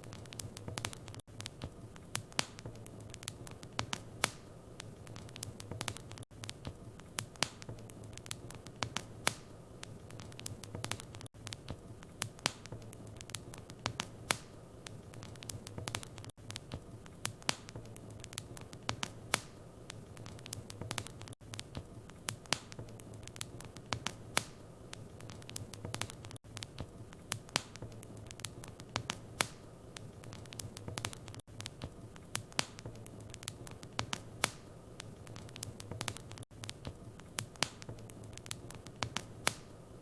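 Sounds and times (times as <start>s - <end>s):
fire pops and snaps: 0.0s - 39.8s
low rumble of flames: 0.0s - 40.0s.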